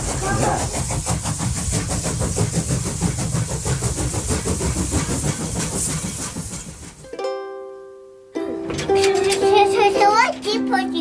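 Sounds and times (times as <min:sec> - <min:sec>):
train clattering on rails: 0:00.0 - 0:07.2, 0:08.4 - 0:11.0.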